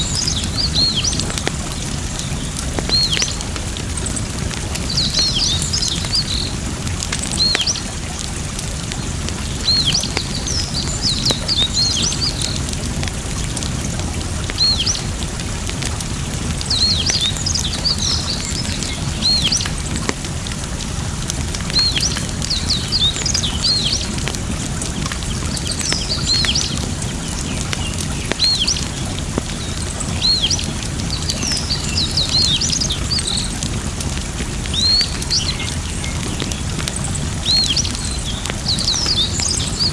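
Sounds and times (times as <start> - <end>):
flowing water: 0.0 - 39.9
small birds chirping: 0.0 - 39.9
wood fire crackling: 0.0 - 39.9.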